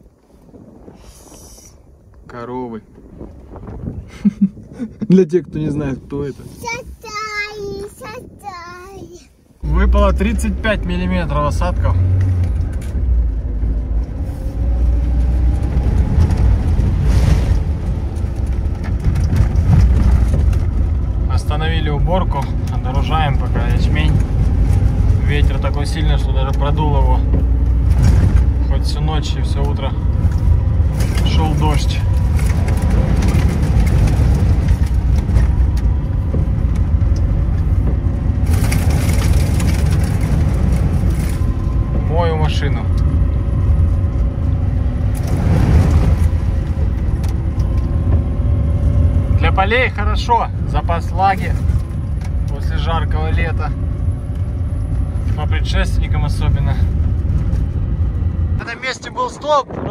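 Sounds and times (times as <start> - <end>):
wind buffeting microphone: 0.0 - 11.3, 11.9 - 59.9
heavy vehicle engine rumbling: 6.4 - 59.9.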